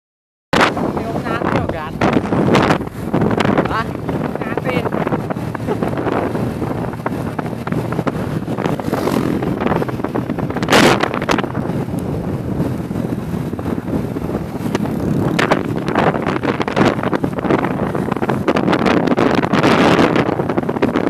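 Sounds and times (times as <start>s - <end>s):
motorcycle running: 0.6s - 21.0s
wind buffeting microphone: 0.6s - 21.0s.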